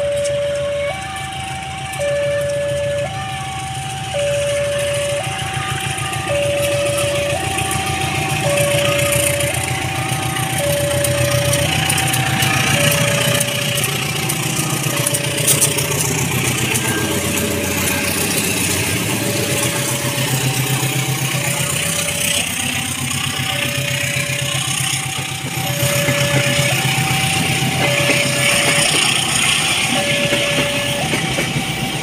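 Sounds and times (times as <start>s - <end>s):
diesel train passing: 0.0s - 32.0s.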